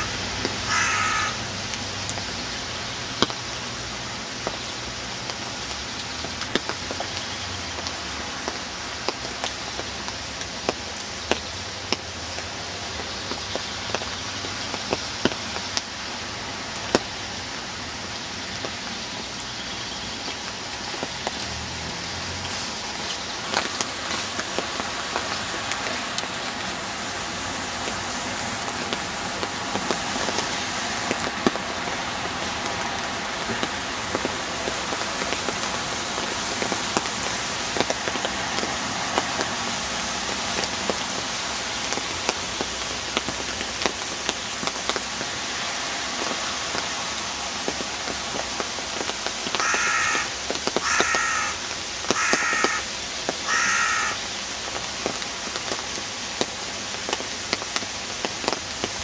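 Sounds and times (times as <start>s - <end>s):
raindrops tapping close by: 0.0s - 59.0s
steady rainfall: 0.0s - 59.0s.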